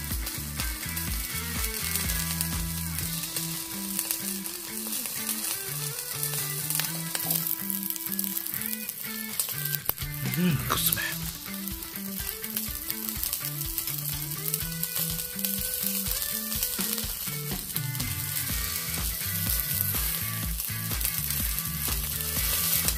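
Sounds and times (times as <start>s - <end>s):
small crackles: 0.0s - 10.3s, 10.9s - 22.9s
chicken sizzling on a charcoal grill: 0.0s - 22.9s.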